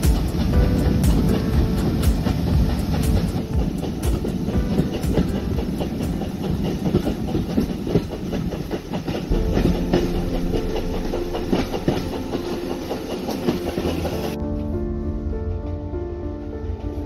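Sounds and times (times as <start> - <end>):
train wheels clattering over rails: 0.0 - 14.4
music: 0.0 - 17.0.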